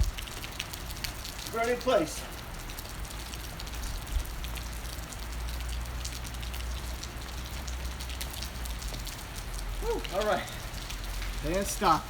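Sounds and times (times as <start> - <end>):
rain drops ticking: 0.0 - 12.0.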